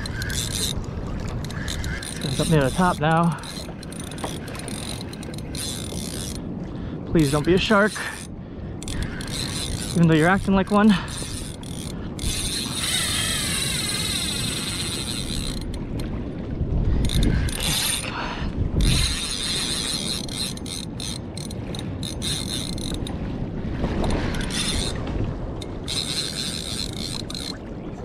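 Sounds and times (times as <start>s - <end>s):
fishing reel gears whirring: 0.0s - 6.5s, 7.2s - 16.0s, 17.0s - 18.2s, 18.8s - 23.1s, 24.0s - 25.0s, 25.6s - 27.6s.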